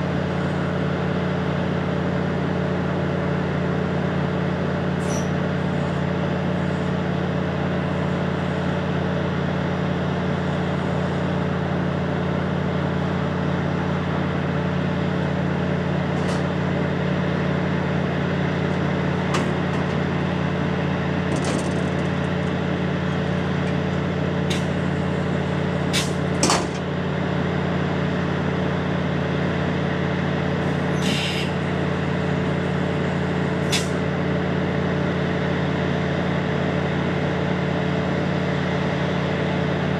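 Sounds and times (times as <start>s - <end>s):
train engine idling drone: 0.0s - 39.9s.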